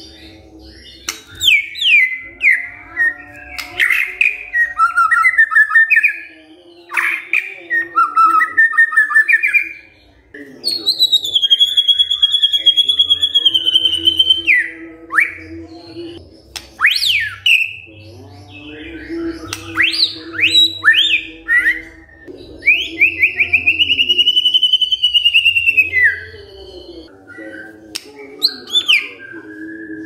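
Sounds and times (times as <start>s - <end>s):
bird singing trills and whistles: 0.0s - 10.0s, 10.6s - 30.0s.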